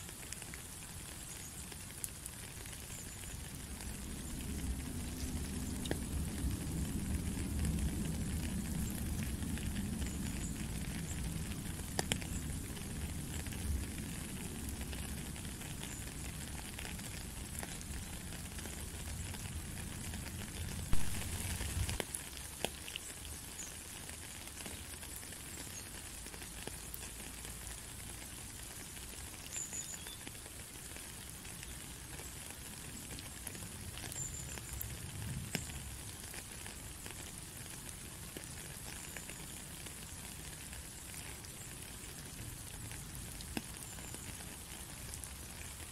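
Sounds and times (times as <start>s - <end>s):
rain on puddle and gravel: 0.0s - 45.9s
water drips ticking: 0.0s - 45.9s.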